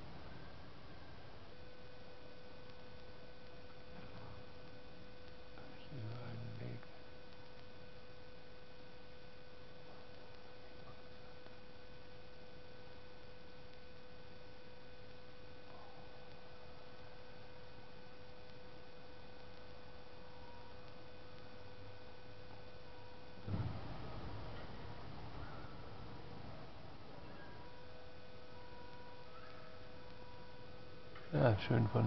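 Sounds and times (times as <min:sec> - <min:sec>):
steady faint hiss: 0:00.0 - 0:32.0
thin electrical whine: 0:00.0 - 0:32.0.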